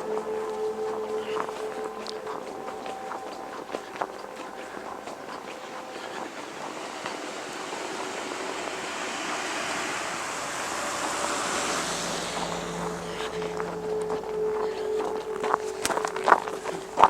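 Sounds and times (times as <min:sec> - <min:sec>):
vehicle tyre noise on road: 0:00.0 - 0:17.0.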